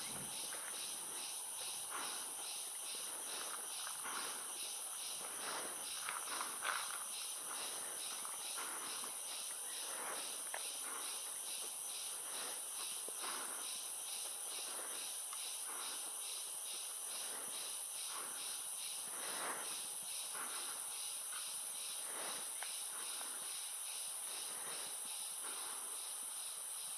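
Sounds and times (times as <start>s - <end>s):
high-pitched insect drone: 0.0s - 26.9s
pulsing insect call: 0.0s - 26.9s.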